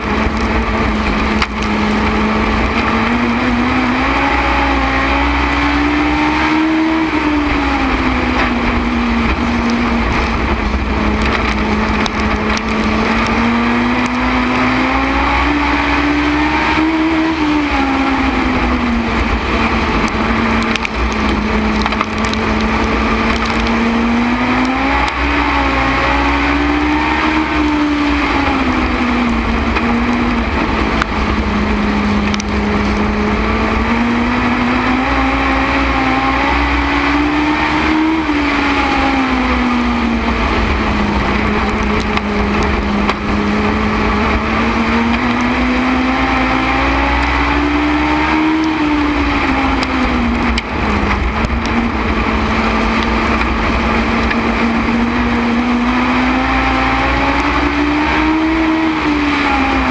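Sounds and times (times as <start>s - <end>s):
race car engine at racing speed: 0.0s - 59.9s.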